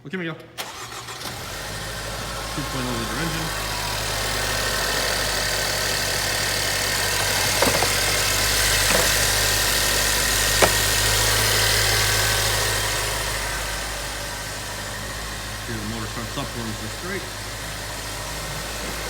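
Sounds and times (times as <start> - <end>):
car engine idling: 0.6 - 19.0.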